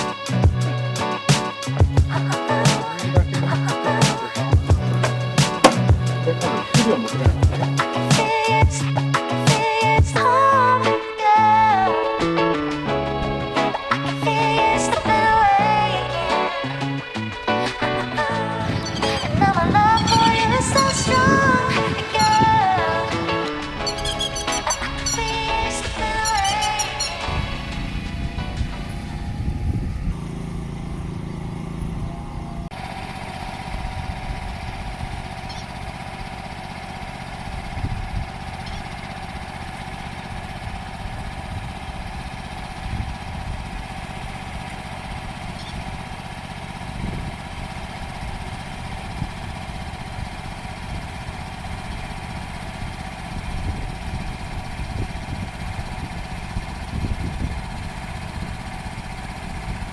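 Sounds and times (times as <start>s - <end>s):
transplanter engine running: 0.0s - 59.9s.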